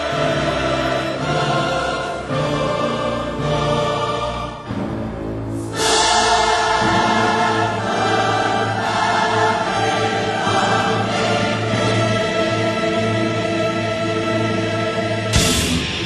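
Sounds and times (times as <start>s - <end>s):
choir singing sustained chords: 0.0s - 16.0s.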